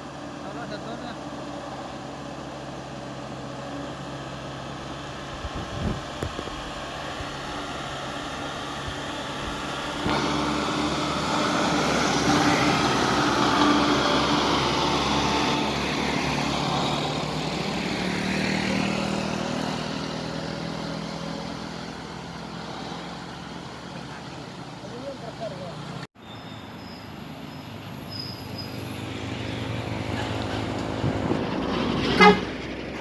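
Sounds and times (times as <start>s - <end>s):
road vehicles passing: 0.0s - 33.0s.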